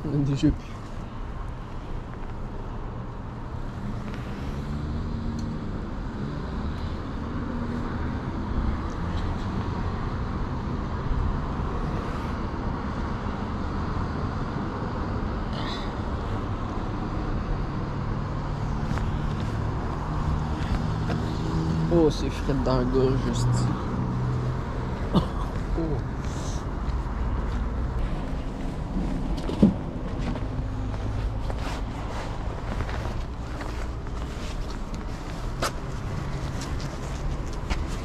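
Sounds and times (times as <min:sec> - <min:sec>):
traffic noise: 0:00.0 - 0:38.0.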